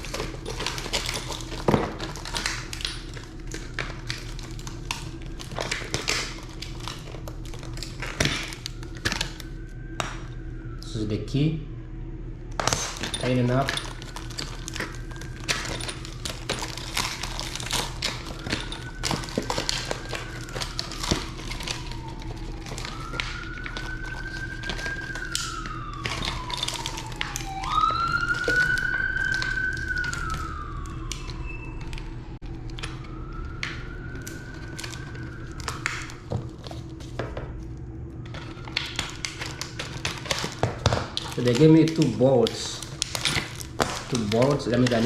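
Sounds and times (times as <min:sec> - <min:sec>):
emergency siren wailing: 0:00.0 - 0:45.0.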